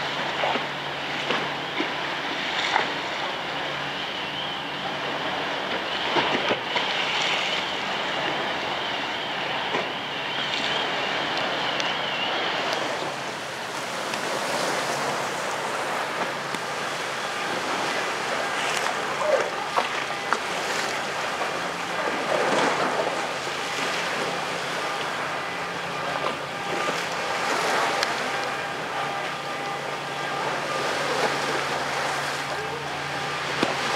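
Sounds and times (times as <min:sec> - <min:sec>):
ferry engine running: 0:00.0 - 0:33.9
wavering high whine: 0:00.0 - 0:33.9
waves splashing: 0:00.0 - 0:33.9.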